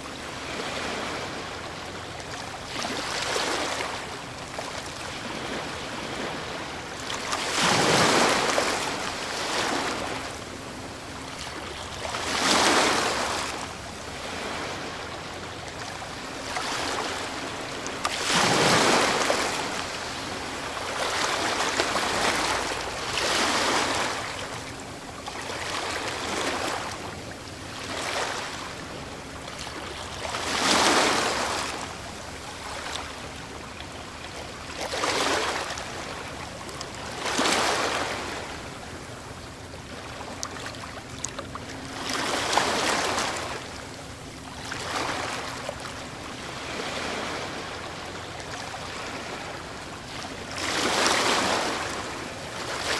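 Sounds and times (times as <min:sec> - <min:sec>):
ocean waves breaking on shore: 0:00.0 - 0:52.9.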